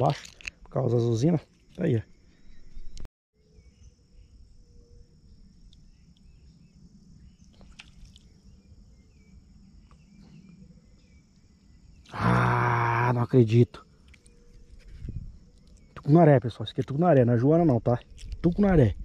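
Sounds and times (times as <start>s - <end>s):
insect chirps: 0.0s - 19.0s
insects droning: 0.0s - 19.0s.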